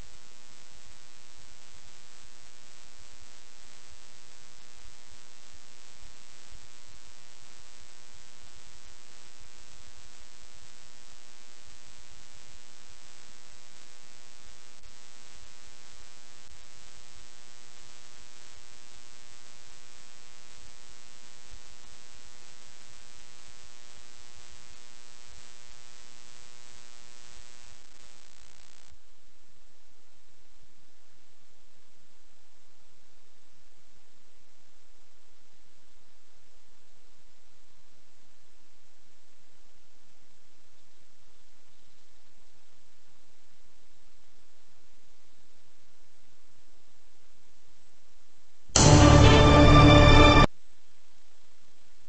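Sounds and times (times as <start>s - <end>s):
electrical buzzing hum: 0.0s - 50.5s.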